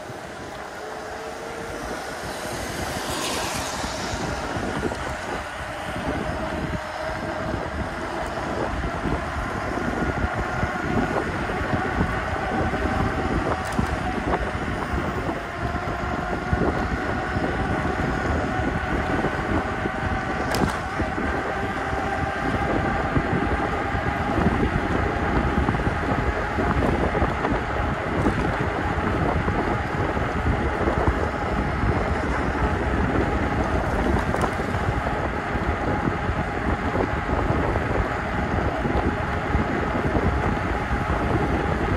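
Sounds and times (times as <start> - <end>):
electric motor whine: 0.0 - 41.9
wind buffeting microphone: 0.0 - 41.9.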